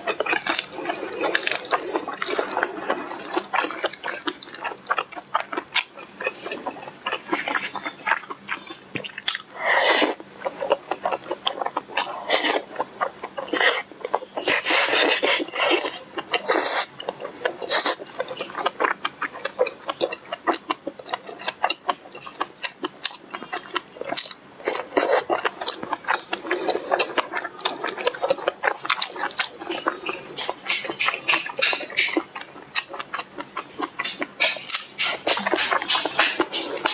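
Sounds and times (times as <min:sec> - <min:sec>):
wet chewing and smacking: 0:00.0 - 0:36.9.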